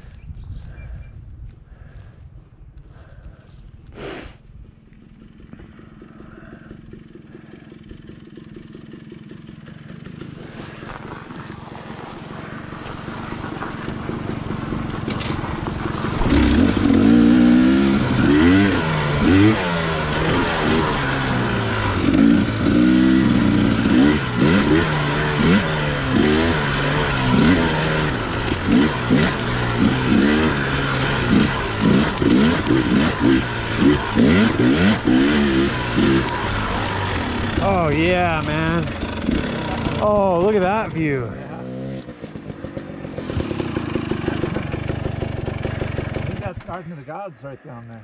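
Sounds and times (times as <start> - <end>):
two-stroke dirt bike engine revving: 5.0 - 47.6.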